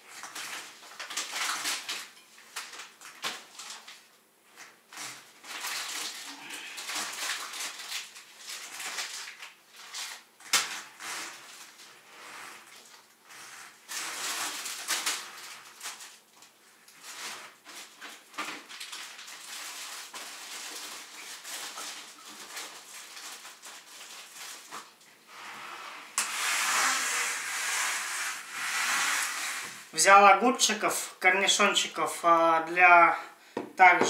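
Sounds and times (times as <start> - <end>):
plastic bags rustling: 0.0 - 31.9.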